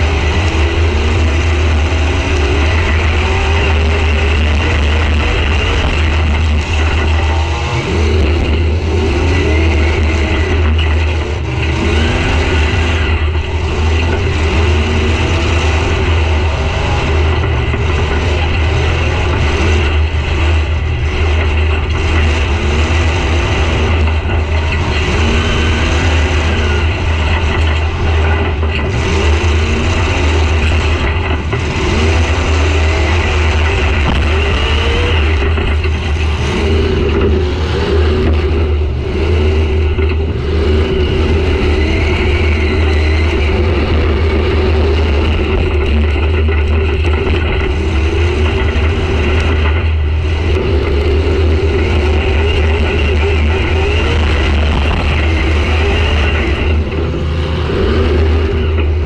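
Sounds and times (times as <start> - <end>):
car engine revving: 0.0 - 59.0
heavy low rumble: 0.0 - 59.0.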